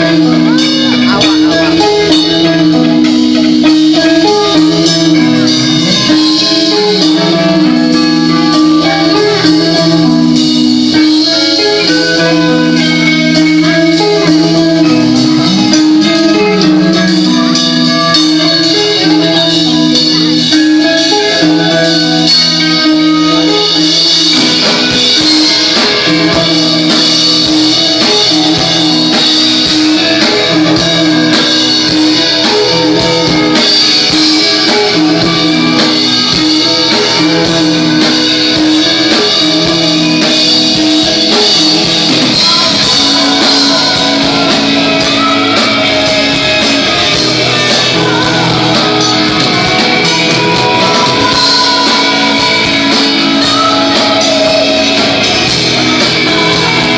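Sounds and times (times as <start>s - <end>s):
person singing: 0.0s - 56.9s
rock band playing live: 0.0s - 56.9s.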